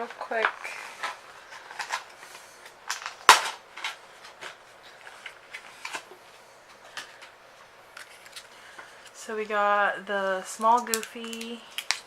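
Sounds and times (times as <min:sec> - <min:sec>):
plastic packaging crackling and snapping: 0:00.1 - 0:06.2, 0:06.9 - 0:09.2, 0:10.6 - 0:12.0.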